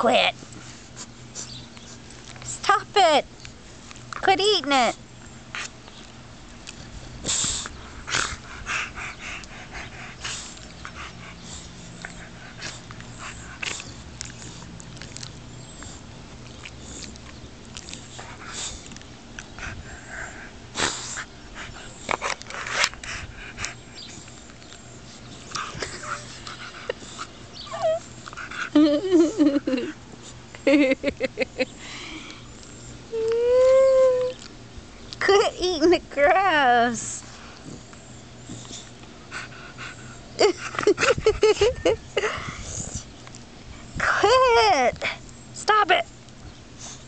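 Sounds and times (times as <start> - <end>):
puppy breathing and huffing: 0.0 - 3.2, 3.8 - 33.1, 34.5 - 47.0.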